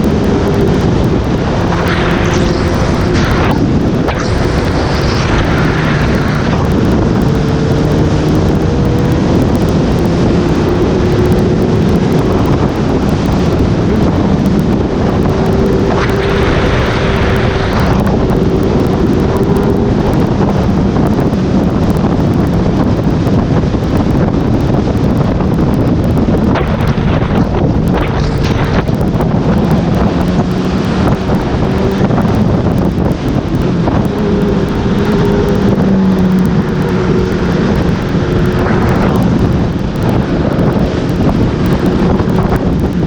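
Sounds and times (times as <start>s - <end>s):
motorcycle engine: 0.0s - 43.0s
wind buffeting microphone: 0.0s - 43.0s.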